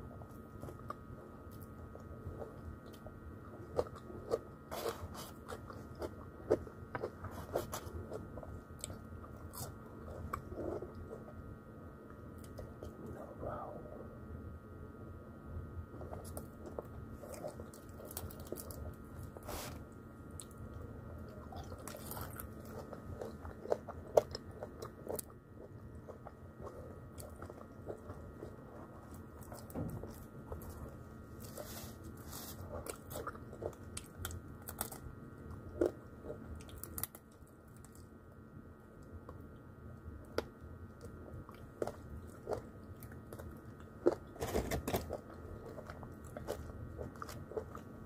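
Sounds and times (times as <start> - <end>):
person chewing crispy chicken: 0.3 - 11.4, 16.0 - 38.2, 40.2 - 48.0.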